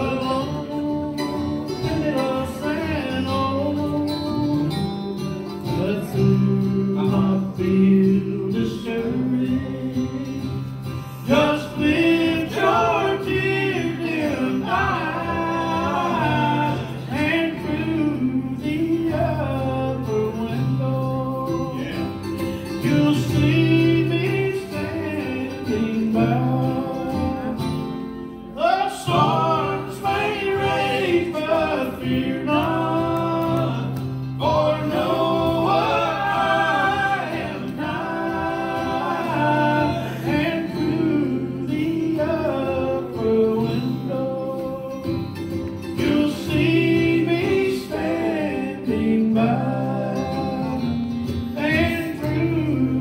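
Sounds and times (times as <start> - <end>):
acoustic guitars strumming: 0.0 - 53.0
men singing: 0.0 - 53.0.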